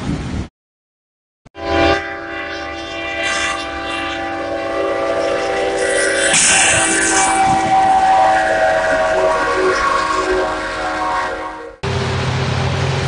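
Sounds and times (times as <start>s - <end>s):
locomotive air horn: 1.5s - 12.0s
loud burst of noise: 1.6s - 13.0s.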